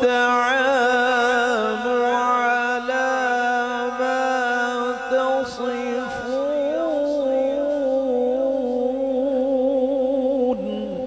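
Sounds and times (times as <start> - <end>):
man reciting in melodic chant: 0.0 - 11.0.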